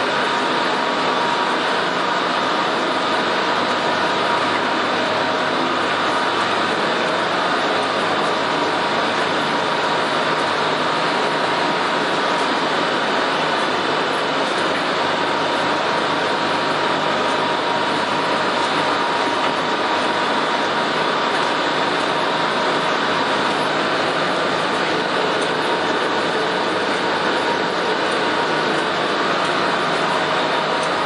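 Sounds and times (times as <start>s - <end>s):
industrial machinery running: 0.0s - 31.0s.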